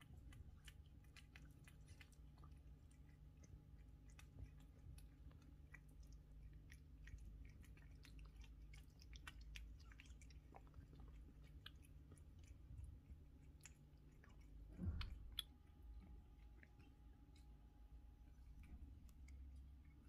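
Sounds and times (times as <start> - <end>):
cats chewing food: 0.0 - 20.0.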